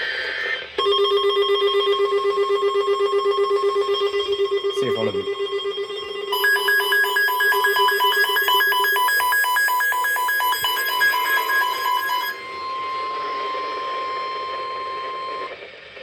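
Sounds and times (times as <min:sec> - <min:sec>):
steady warning alarm tone: 0:00.1 - 0:15.6
two-pitch electronic alarm beeping: 0:00.8 - 0:15.5.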